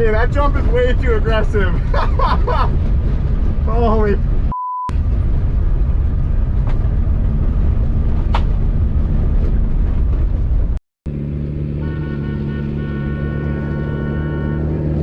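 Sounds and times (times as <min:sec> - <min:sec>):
rally car engine rumble: 0:00.0 - 0:15.0.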